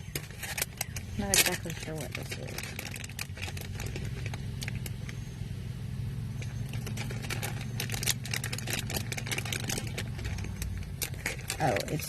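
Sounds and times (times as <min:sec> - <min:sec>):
hands handling packaging: 0:00.0 - 0:05.2, 0:06.4 - 0:12.0
steady low hum: 0:00.0 - 0:12.0.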